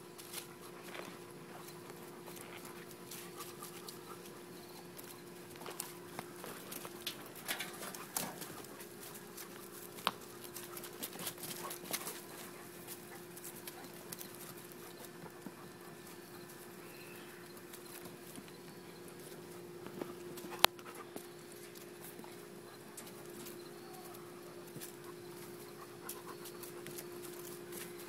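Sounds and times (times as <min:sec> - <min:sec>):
faint hum: 0:00.0 - 0:28.0
puppies tapping and clicking: 0:00.1 - 0:28.0.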